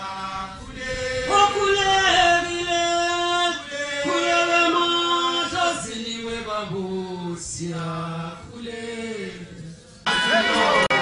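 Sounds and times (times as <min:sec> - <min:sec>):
voices singing a chant: 0:00.0 - 0:11.0.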